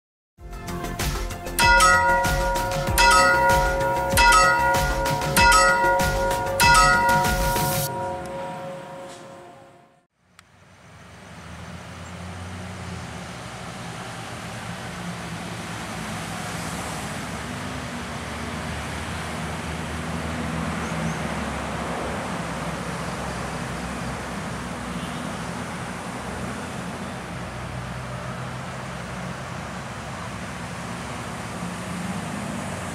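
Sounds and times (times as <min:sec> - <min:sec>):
road traffic with engine hum: 0:00.4 - 0:32.9.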